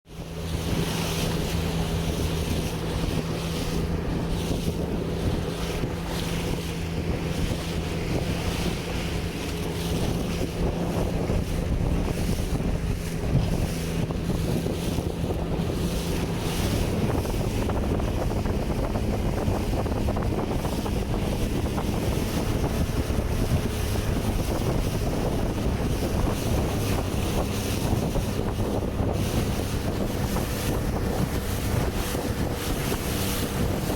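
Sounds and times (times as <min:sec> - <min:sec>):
motorboat engine running: 0:00.0 - 0:33.9
water rushing past hull: 0:00.0 - 0:33.9
wind buffeting microphone: 0:00.0 - 0:33.9.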